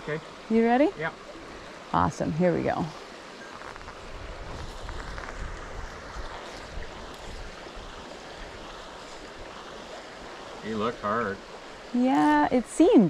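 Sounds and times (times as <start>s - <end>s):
stream running over gravel: 0.0s - 13.0s
wind buffeting microphone: 2.1s - 13.0s.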